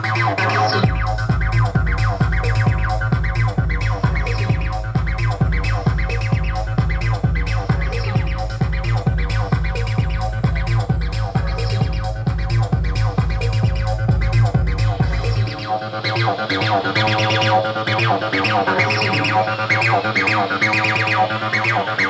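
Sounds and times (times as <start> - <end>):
electronic dance music: 0.0 - 22.0.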